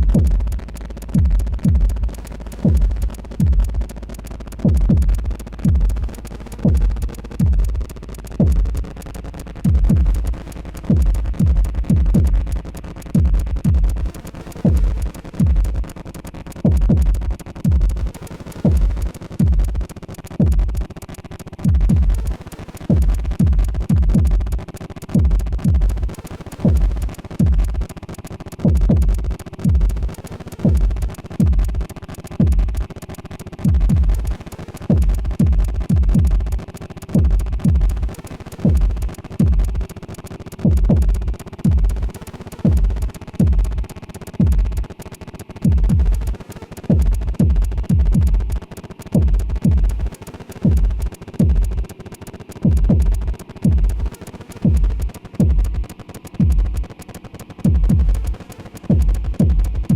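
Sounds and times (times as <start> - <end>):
synthesized kick hits: 0.0 - 15.9, 16.6 - 20.9, 21.6 - 24.6, 25.2 - 27.9, 28.6 - 32.8, 33.6 - 36.6, 37.2 - 39.9, 40.6 - 44.9, 45.6 - 46.3, 46.9 - 51.9, 52.6 - 56.9, 57.6 - 59.9
crackling noise texture: 0.0 - 59.9
synthesizer drone: 0.0 - 59.9.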